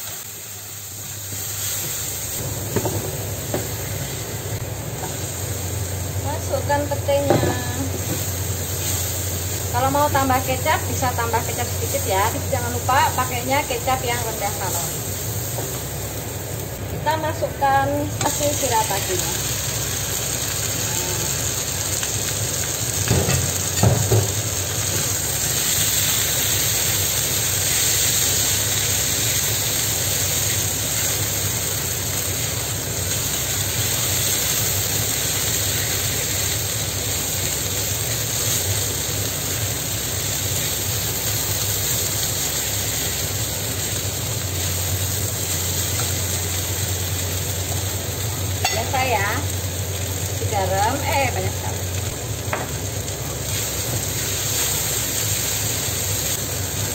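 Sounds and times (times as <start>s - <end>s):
rice sizzling in a wok: 0.0s - 56.9s.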